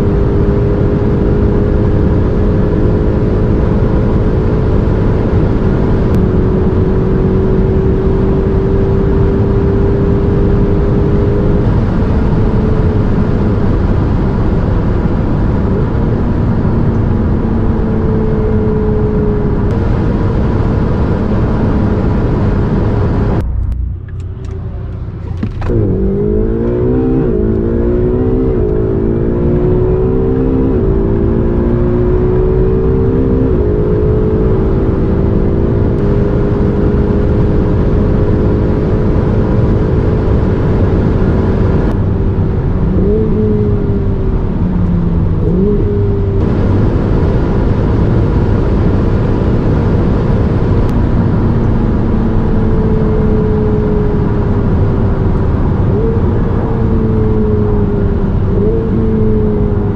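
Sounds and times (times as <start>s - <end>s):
electric car humming tone: 0.0s - 59.9s
low road rumble: 0.0s - 59.9s.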